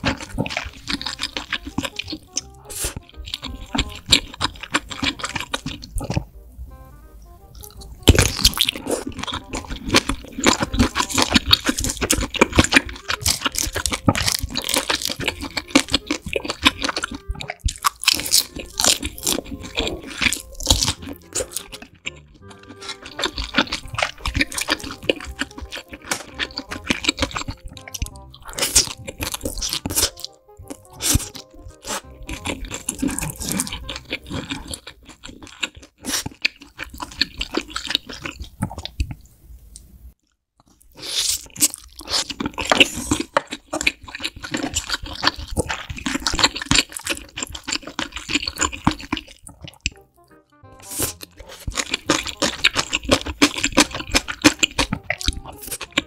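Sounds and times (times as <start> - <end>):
crunchy chewing of food: 0.0 - 6.4, 7.3 - 56.0.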